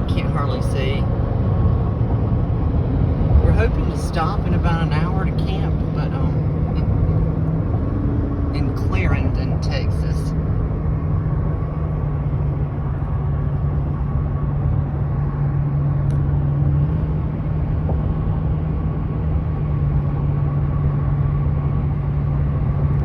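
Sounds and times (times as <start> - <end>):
steady low hum: 0.0 - 23.0
vehicle road and engine noise: 0.0 - 23.0.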